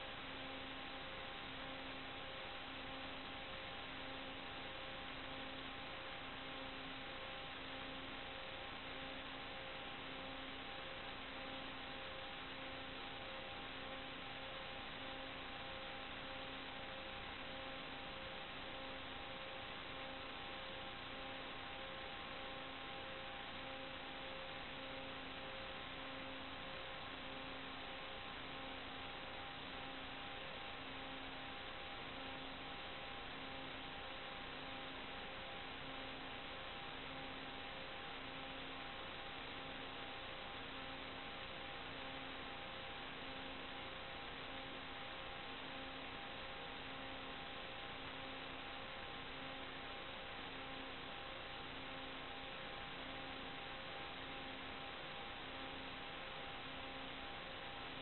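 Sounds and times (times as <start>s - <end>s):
static hiss: 0.0s - 58.0s.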